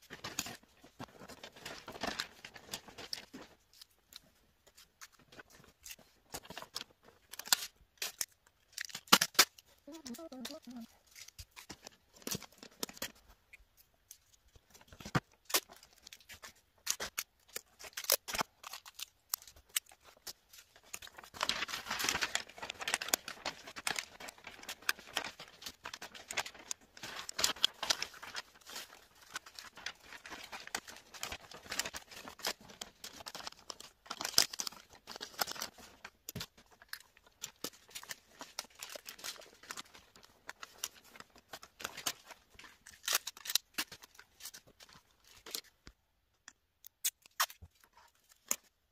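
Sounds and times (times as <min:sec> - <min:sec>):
wrapping paper crinkling: 0:00.0 - 0:46.0.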